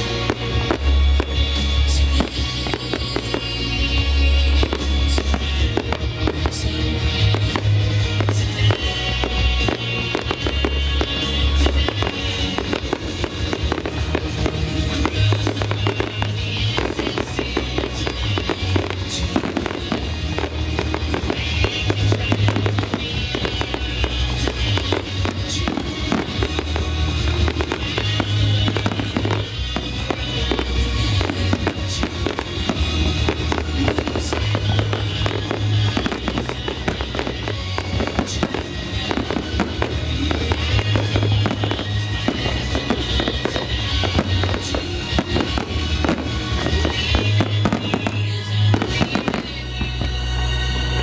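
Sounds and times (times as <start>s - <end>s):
fireworks bursting and crackling: 0.0s - 51.0s
music with low bass notes: 0.0s - 51.0s.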